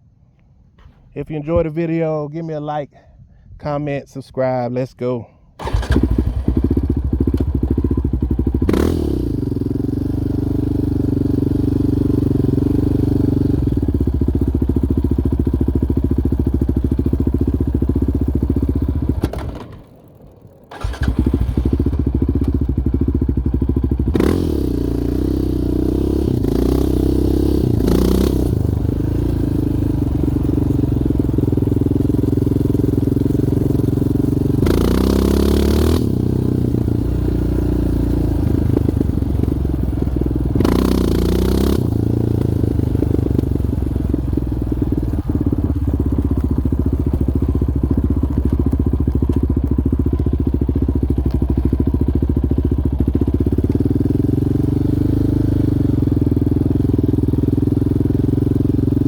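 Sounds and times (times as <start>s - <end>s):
quad bike engine revving: 5.6s - 19.8s, 20.7s - 59.0s.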